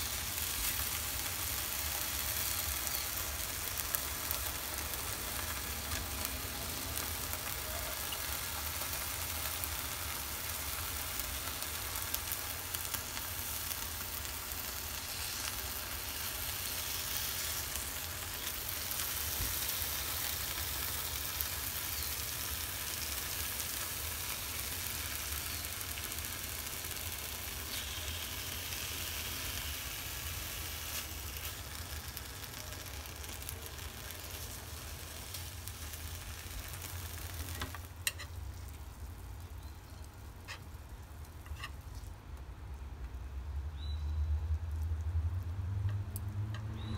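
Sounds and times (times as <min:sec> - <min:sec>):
bacon sizzling in a pan: 0:00.0 - 0:41.8.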